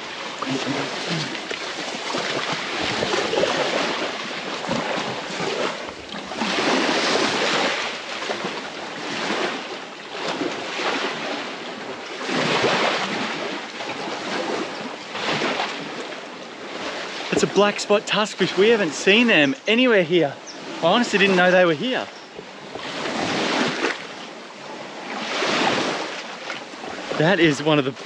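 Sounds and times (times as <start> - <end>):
small waves washing onto sand: 0.0 - 28.0.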